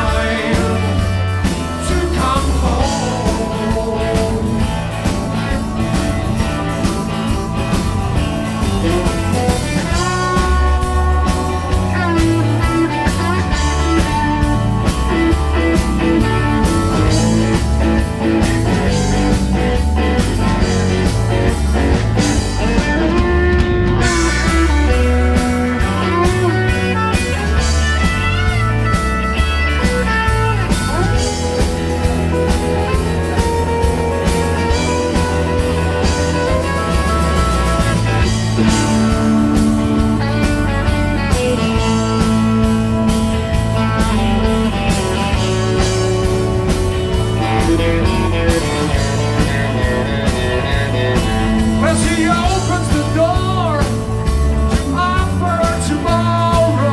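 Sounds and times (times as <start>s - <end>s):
bass guitar: 0.0s - 56.9s
drums: 0.0s - 56.9s
keyboard: 0.0s - 56.9s
electric guitar solo: 4.8s - 55.1s.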